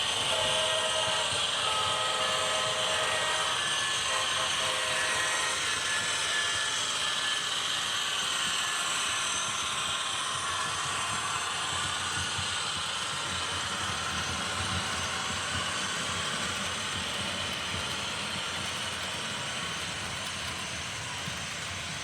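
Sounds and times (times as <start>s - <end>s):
diesel locomotive running: 0.0s - 22.0s.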